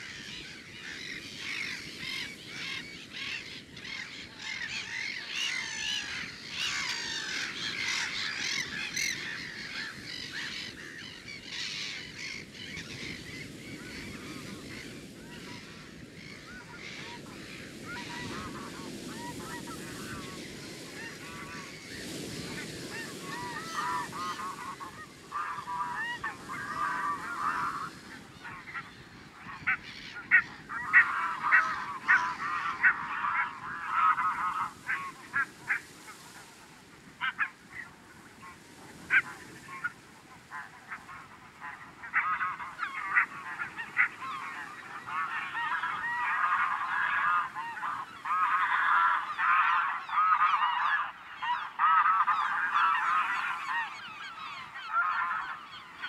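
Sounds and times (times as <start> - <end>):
geese calling: 0.0 - 56.0.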